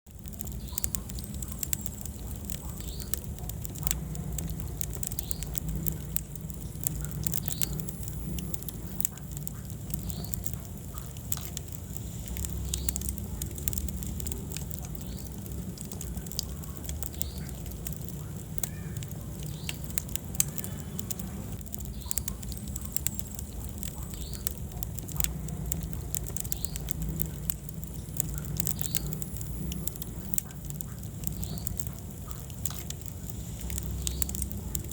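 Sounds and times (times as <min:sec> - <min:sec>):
low rumble of flames: 0:00.0 - 0:34.9
wood fire crackling and popping: 0:00.0 - 0:34.9.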